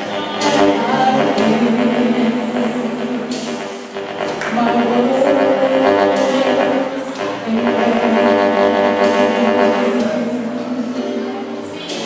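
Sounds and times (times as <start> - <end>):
church music held chords: 0.0 - 12.0.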